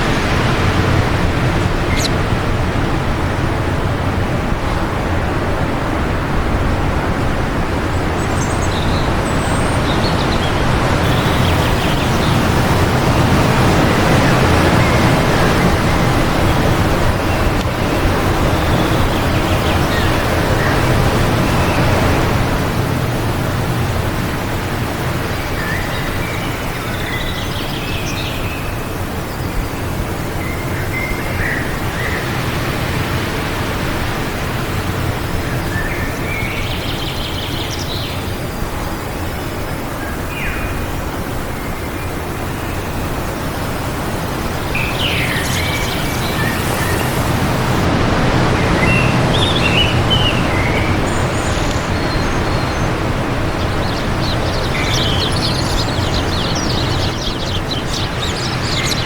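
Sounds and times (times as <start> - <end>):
birds chirping: 0.0 - 2.3, 8.2 - 59.0
wind blowing: 0.0 - 59.0.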